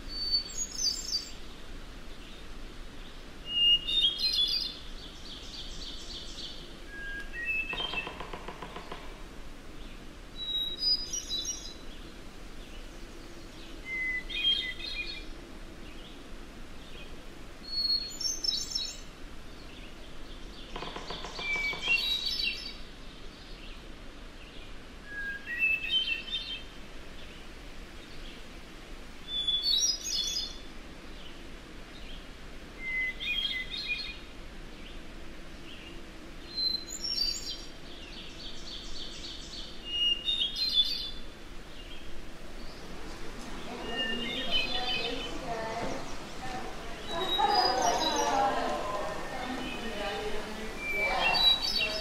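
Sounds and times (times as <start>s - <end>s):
faint background hiss: 0.0s - 52.0s
songbird singing: 0.0s - 52.0s.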